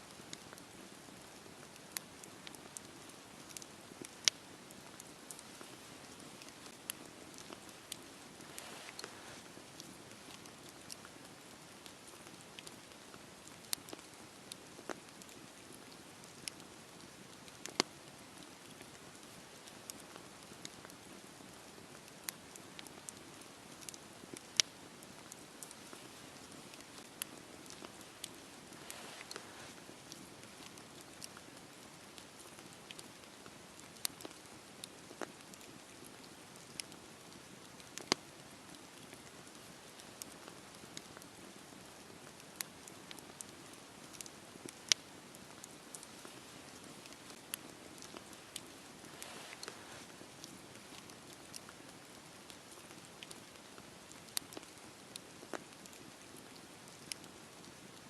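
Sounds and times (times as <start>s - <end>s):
fire crackles and pops: 0.0s - 58.0s
campfire hissing: 0.1s - 57.8s.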